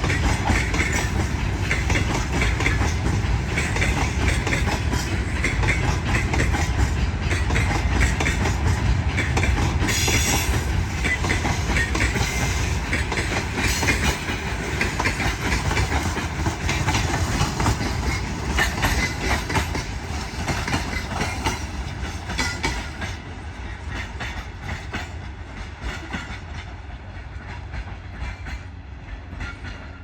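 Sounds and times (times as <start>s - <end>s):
train wheels clattering: 0.0s - 30.0s.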